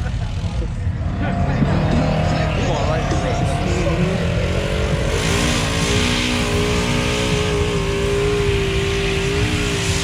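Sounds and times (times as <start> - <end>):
utility vehicle engine revving: 0.0 - 10.0.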